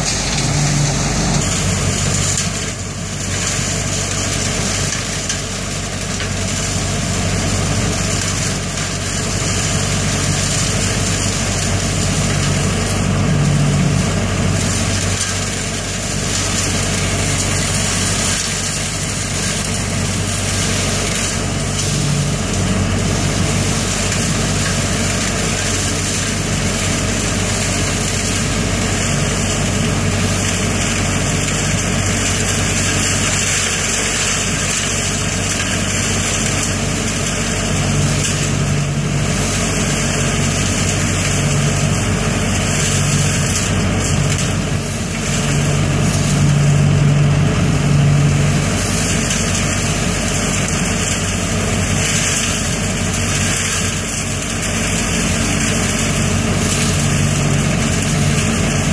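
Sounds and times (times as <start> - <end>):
air and leaves rushing through hose: 0.0 - 58.9
leaf vacuum engine drone: 0.0 - 58.9.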